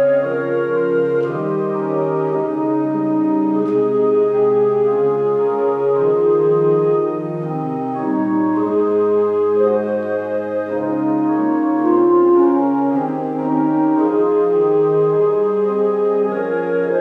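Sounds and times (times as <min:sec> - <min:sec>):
organ playing hymn chords: 0:00.0 - 0:17.0.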